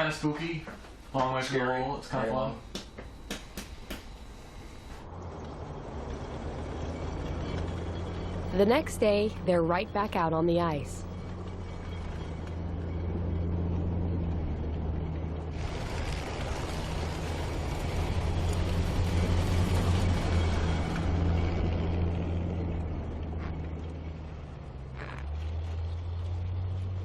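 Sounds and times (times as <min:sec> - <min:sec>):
tracked vehicle engine hum: 0:00.0 - 0:27.0
rushing noise of travel: 0:04.4 - 0:27.0.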